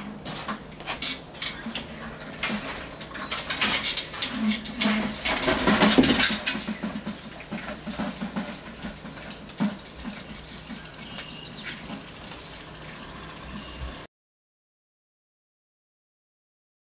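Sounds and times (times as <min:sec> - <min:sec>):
old bicycle rattling and clicking: 0:00.0 - 0:13.8
steady low hum: 0:00.0 - 0:14.1.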